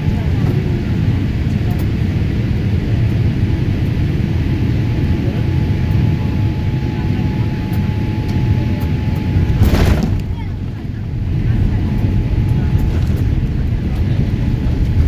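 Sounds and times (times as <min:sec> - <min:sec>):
low rumble of aircraft rolling: 0:00.0 - 0:15.0.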